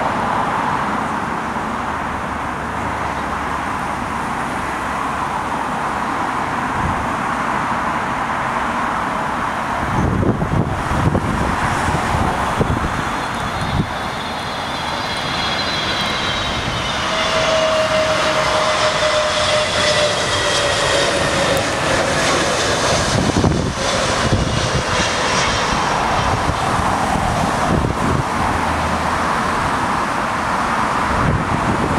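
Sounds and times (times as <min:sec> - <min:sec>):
jet aircraft passing overhead: 0:00.0 - 0:31.9.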